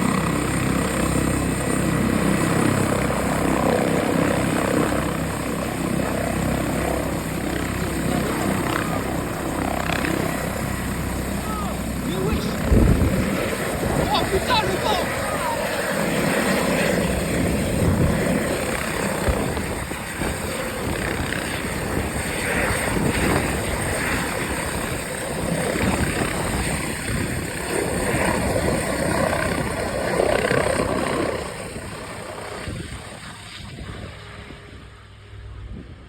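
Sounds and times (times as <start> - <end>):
helicopter rotor and turbine: 0.0 - 36.0.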